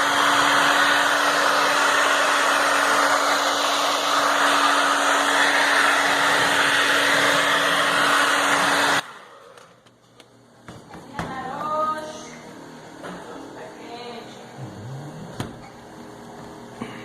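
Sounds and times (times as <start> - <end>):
hair dryer blowing: 0.0 - 9.7, 11.4 - 16.9.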